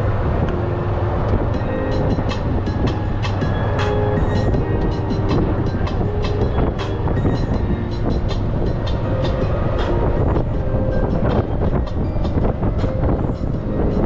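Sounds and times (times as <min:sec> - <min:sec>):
golf cart motor and tyres rumbling: 0:00.0 - 0:14.0.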